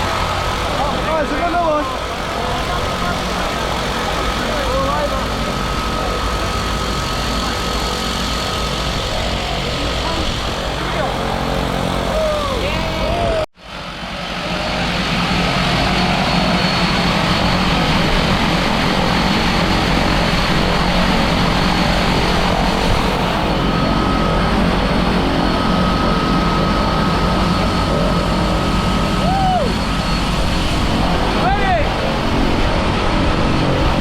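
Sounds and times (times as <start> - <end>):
propeller aircraft engine droning: 0.0 - 34.0
rushing air: 0.0 - 34.0.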